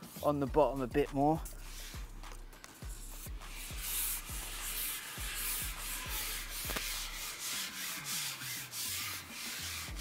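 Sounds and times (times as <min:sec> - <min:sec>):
fishing pole swishing over roller: 0:01.6 - 0:10.0.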